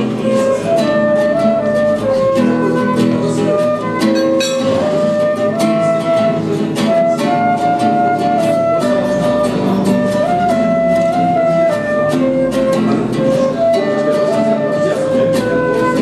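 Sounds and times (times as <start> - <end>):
acoustic guitar plucking chords: 0.0 - 16.0
flute playing slow melody: 0.0 - 16.0.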